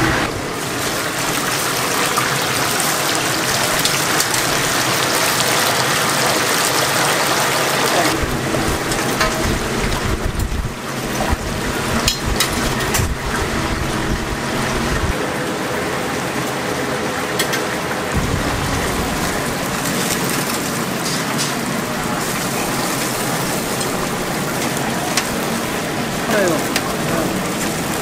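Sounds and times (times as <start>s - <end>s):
chicken sizzling in hot oil: 0.4s - 15.2s, 18.3s - 28.0s.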